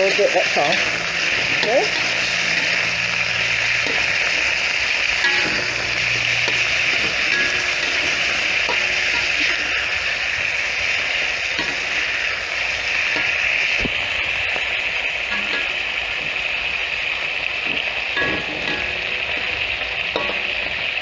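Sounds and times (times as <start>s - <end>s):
chicken sizzling in oil: 0.0s - 21.0s
metal spatula ticking against pan: 0.0s - 21.0s.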